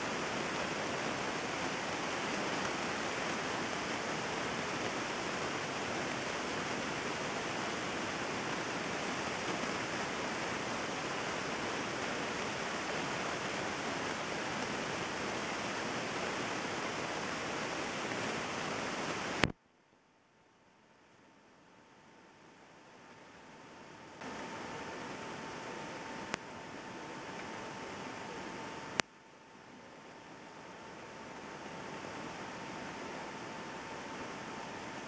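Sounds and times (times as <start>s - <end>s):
heavy rain hissing: 0.0s - 19.5s, 24.2s - 29.0s, 29.8s - 35.0s.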